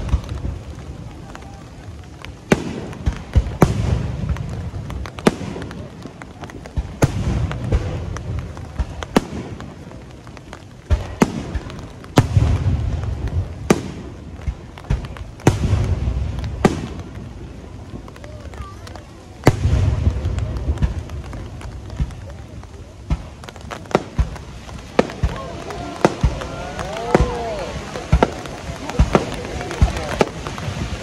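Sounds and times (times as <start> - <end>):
low rolling rumble: 0.0 - 31.0.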